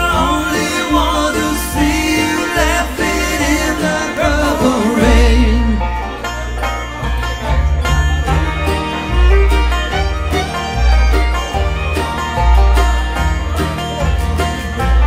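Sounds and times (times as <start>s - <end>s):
backing track with deep bass: 0.0s - 15.0s.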